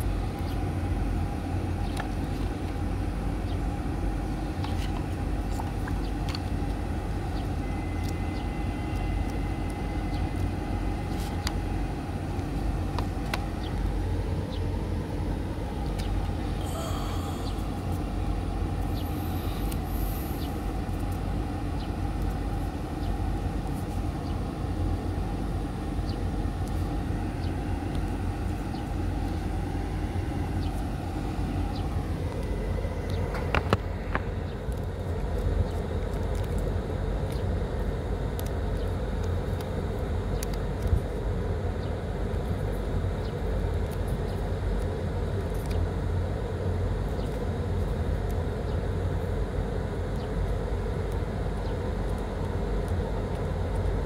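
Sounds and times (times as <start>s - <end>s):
low background rumble: 0.0s - 54.0s.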